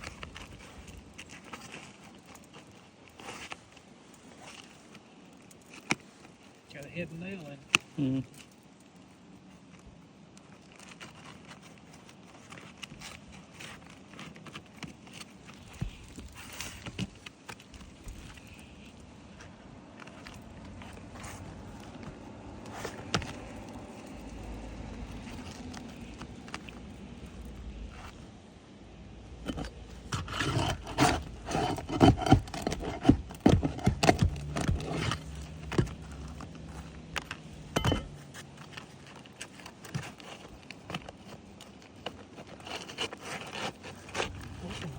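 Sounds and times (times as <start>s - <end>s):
shingles scuffing and crackling: 0.0s - 28.4s, 29.4s - 44.9s.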